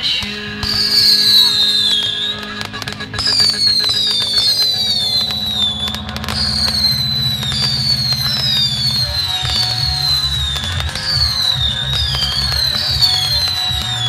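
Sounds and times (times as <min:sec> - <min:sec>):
fireworks crackling pops: 0:00.0 - 0:14.0
whistling fireworks: 0:00.0 - 0:14.0.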